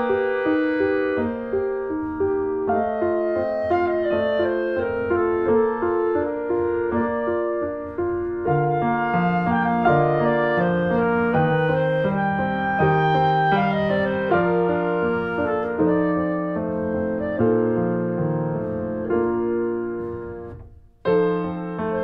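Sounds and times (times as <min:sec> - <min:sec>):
gentle instrumental music: 0:00.0 - 0:22.0.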